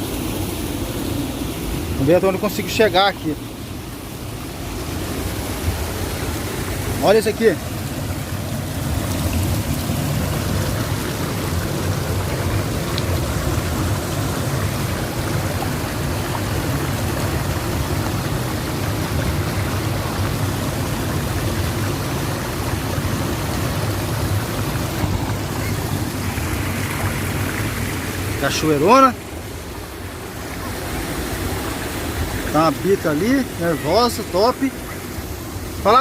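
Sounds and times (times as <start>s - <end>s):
water rushing over rocks: 0.0s - 36.0s.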